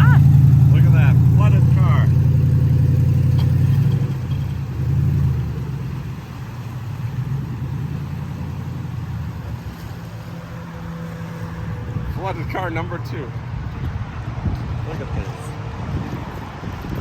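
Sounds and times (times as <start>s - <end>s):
engine running low hum: 0.0s - 17.0s.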